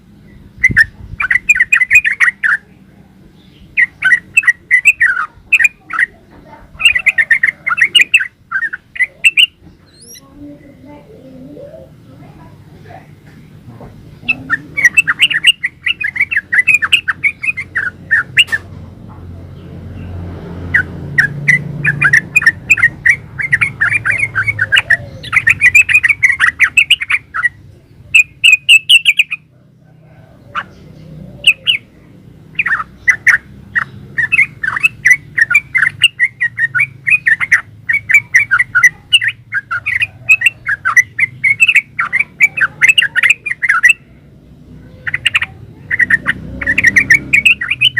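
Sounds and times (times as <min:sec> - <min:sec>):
bird singing chattering notes: 0:00.0 - 0:47.9.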